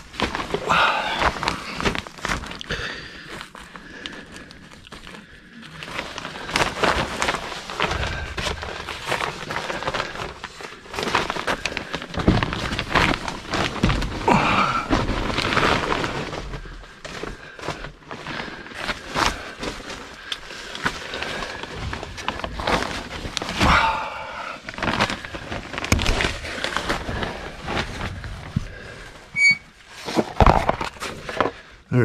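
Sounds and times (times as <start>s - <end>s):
plastic sheeting crinkling: 0.0s - 31.8s.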